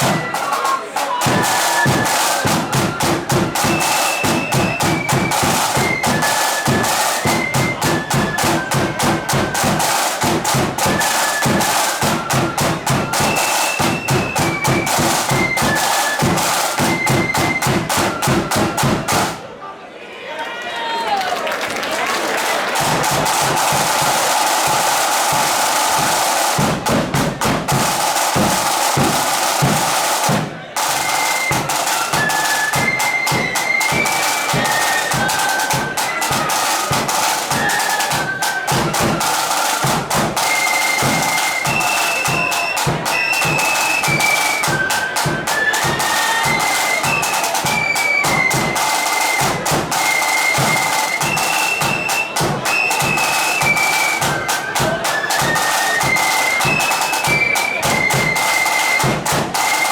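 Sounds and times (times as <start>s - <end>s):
flute melody: 0.0s - 19.4s, 22.9s - 59.9s
snare and bass drums: 0.0s - 19.5s, 22.7s - 59.9s.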